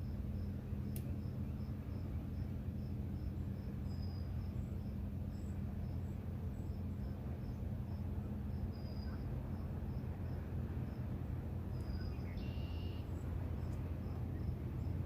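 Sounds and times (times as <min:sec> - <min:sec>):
higher insect chirping: 0:00.0 - 0:11.1, 0:11.7 - 0:15.0
crickets chirping: 0:00.0 - 0:15.0
steady low rumble: 0:00.0 - 0:15.0.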